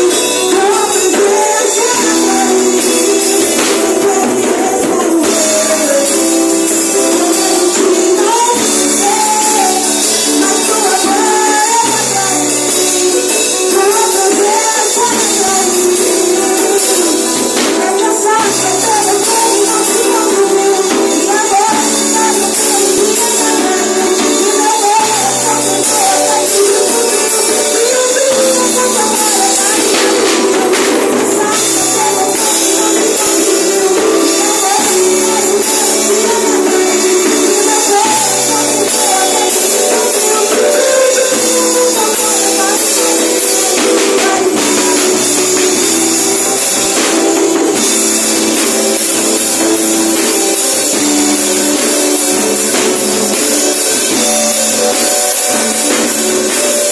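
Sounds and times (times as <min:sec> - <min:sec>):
praise band music: 0:00.0 - 0:56.9.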